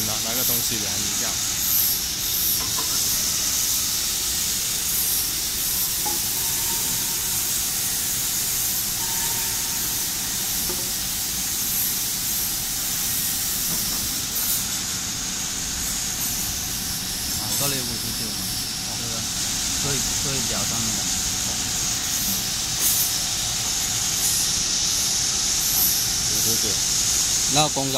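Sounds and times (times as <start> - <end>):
wood planer hissing: 0.0 - 27.9.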